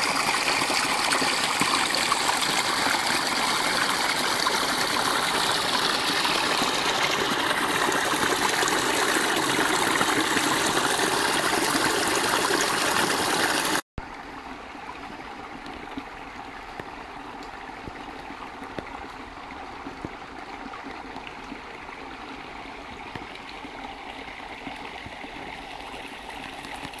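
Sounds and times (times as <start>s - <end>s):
brook splashing over stones: 0.0s - 27.0s
stream flowing steadily: 0.0s - 27.0s.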